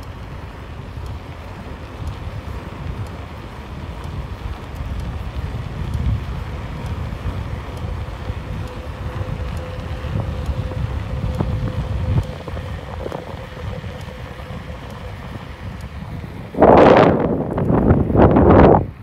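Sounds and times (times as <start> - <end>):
car tyre and engine rumble: 0.0 - 19.0
faint steady hum: 0.0 - 19.0
wind buffeting microphone: 0.0 - 19.0.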